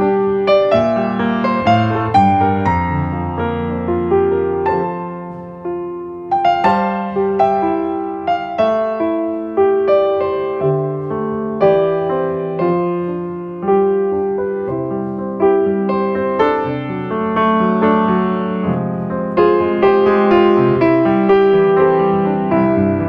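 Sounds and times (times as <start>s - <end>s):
gentle piano piece: 0.0s - 23.0s.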